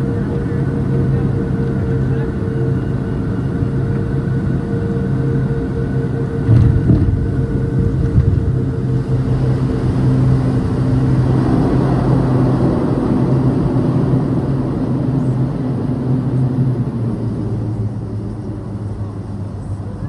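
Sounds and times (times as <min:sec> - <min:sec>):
turboprop cabin drone: 0:00.0 - 0:20.0.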